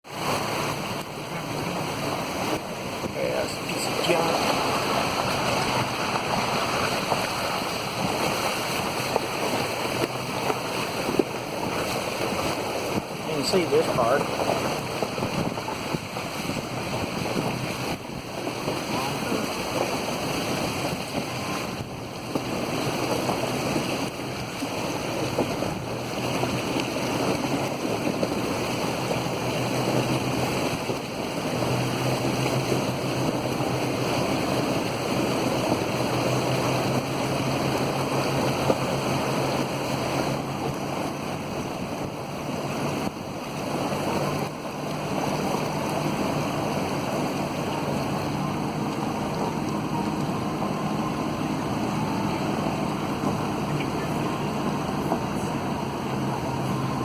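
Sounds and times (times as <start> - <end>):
low engine hum: 0.0 - 57.0
water spraying and sloshing: 0.1 - 57.0.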